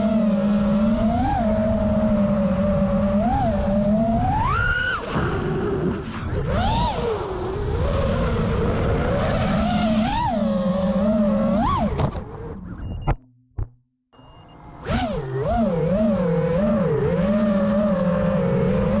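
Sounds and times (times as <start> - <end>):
quadcopter motors whining: 0.0 - 13.0, 14.2 - 19.0.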